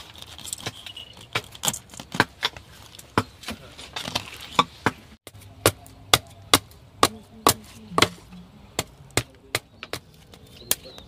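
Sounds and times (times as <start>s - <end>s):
machete chopping wood: 0.6s - 11.0s.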